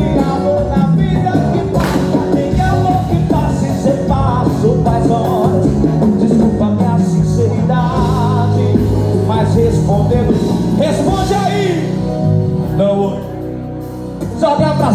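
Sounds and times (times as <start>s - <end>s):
song through loudspeakers: 0.0s - 14.9s.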